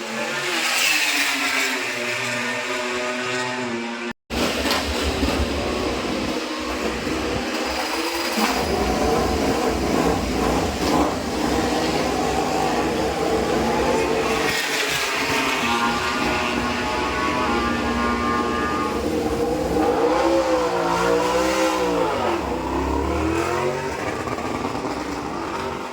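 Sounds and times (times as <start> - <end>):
racing motorcycle engine: 0.0 - 25.9.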